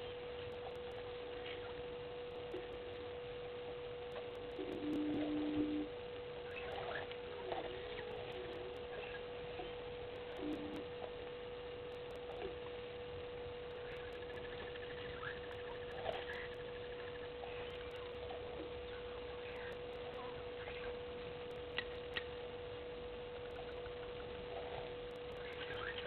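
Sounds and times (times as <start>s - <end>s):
faint chirps: 0.0s - 26.0s
steady high hum: 0.0s - 26.0s.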